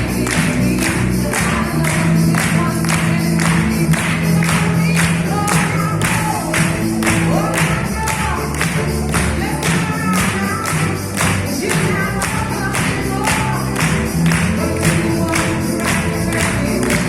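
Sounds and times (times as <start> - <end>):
music with quick beat and melody: 0.0 - 17.0.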